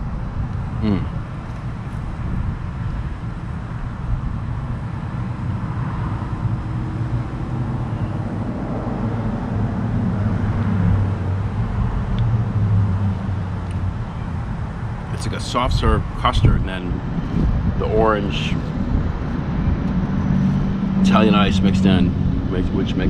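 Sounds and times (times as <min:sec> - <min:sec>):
road traffic noise: 0:00.0 - 0:23.0
vehicle engine hum: 0:00.0 - 0:23.0.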